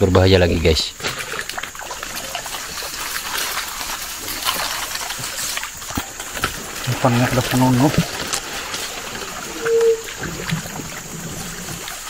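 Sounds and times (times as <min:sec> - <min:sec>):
stream water trickling: 0:00.1 - 0:12.0.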